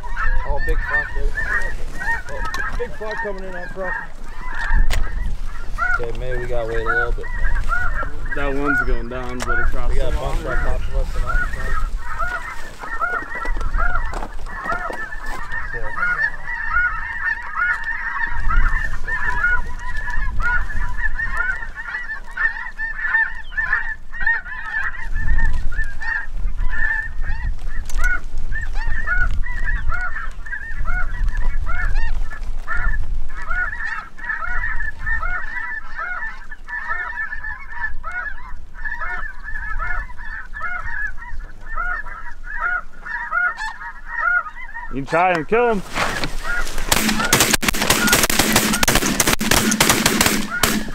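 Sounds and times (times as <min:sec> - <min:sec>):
geese honking: 0:00.0 - 0:50.9.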